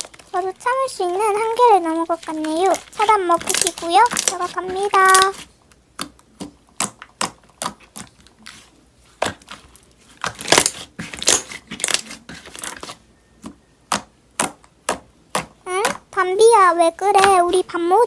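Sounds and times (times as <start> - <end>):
slime crackling and popping: 0.0 - 8.6, 9.2 - 13.0, 13.8 - 16.0.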